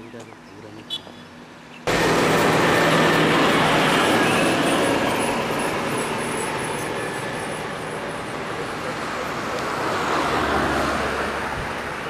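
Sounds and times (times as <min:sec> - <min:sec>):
bus passing close by: 0:01.4 - 0:12.0.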